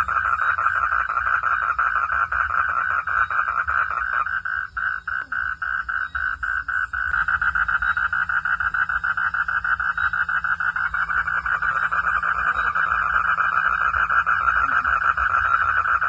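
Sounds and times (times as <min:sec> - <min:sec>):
frog croaking in pulses: 0:00.0 - 0:16.0.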